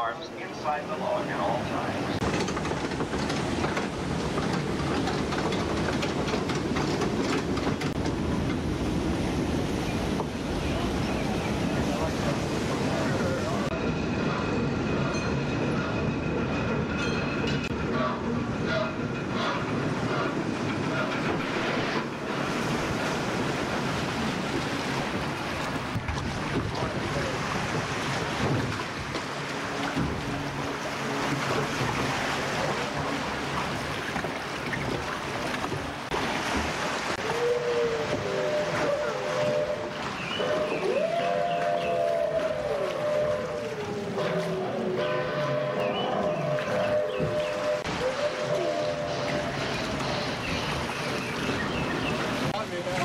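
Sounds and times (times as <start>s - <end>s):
rushing churning water: 0.0s - 16.5s, 17.2s - 53.0s
boat and track clacking: 0.0s - 53.0s.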